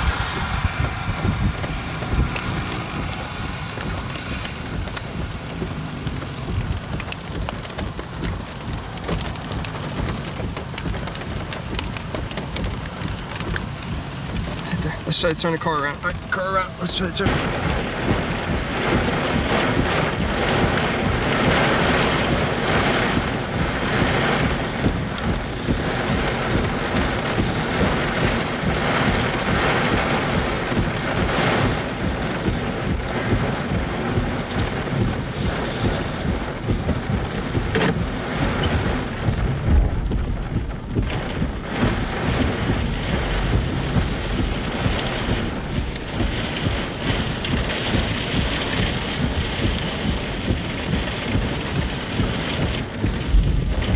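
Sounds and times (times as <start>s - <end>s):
low thunder rumble: 0.0s - 15.2s, 15.8s - 53.9s
heavy rain on a car: 0.0s - 53.9s.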